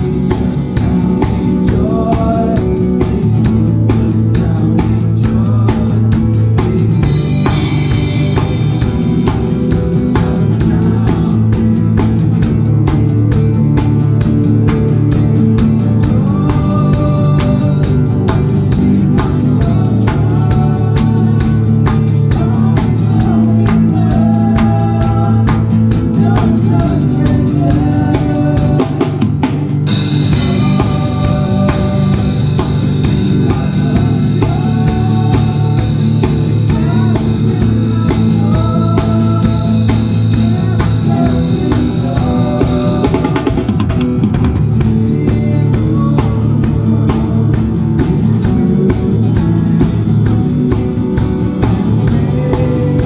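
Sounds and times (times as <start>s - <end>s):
drum kit beat with rimshots: 0.0s - 53.0s
live worship band music: 0.0s - 53.0s.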